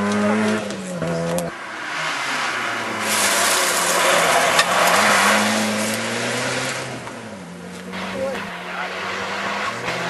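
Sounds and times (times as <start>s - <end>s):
rally car engine accelerating: 0.0s - 10.0s
tyre and dirt rush: 0.0s - 10.0s.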